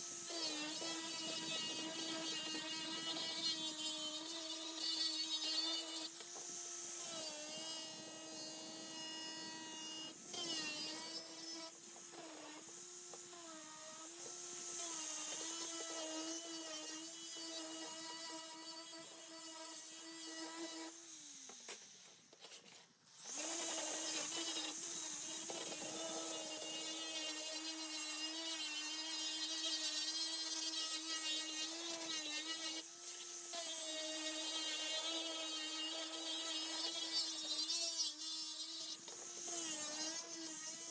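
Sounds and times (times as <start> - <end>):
small electric power tool running: 0.0 - 22.2, 23.1 - 40.9.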